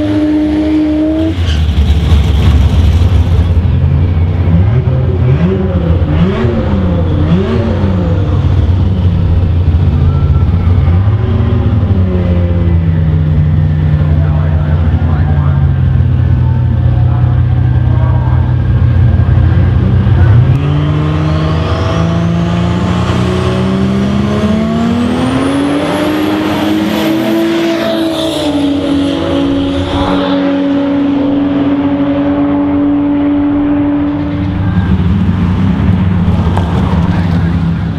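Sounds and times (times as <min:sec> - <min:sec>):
another car engine: 0:00.0 - 0:37.9
different engine sound: 0:00.0 - 0:37.9
drag car engine revving: 0:00.0 - 0:37.9
high whine: 0:00.0 - 0:37.9.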